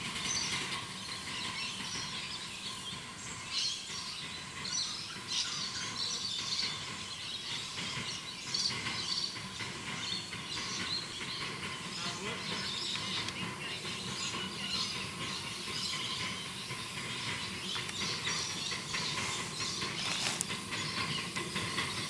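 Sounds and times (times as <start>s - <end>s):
birds chirping: 0.2s - 22.0s.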